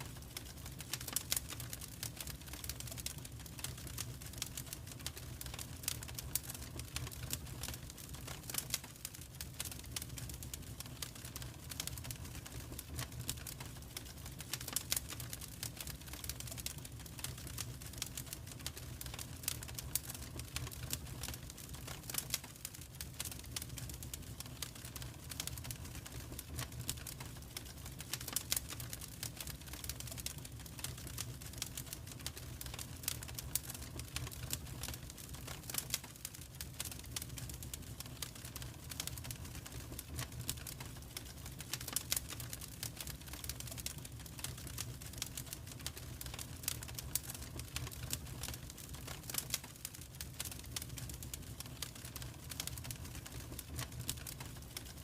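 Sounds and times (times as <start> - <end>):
low rumble of burning logs: 0.0 - 55.0
wood fire crackling and popping: 0.0 - 55.0.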